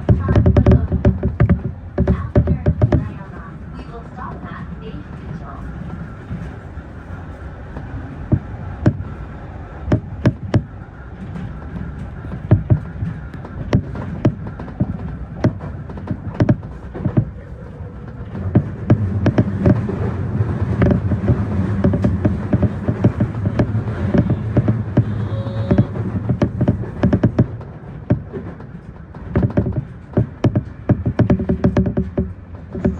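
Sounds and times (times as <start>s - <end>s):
electric train rumbling: 0.0s - 32.9s
sharp clacks and creaks: 0.0s - 32.9s.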